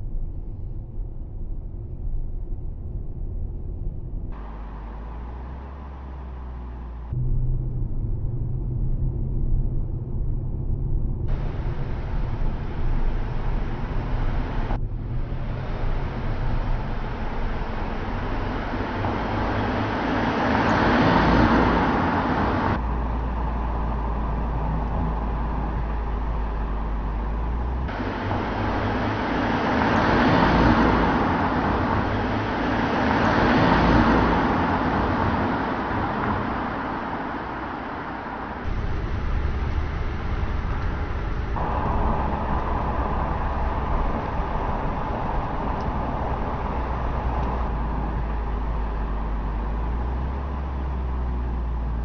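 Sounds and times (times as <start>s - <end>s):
car driving by: 4.3s - 52.0s.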